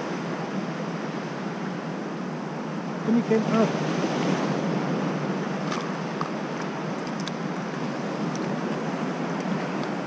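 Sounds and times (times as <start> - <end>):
surf: 0.0 - 10.0.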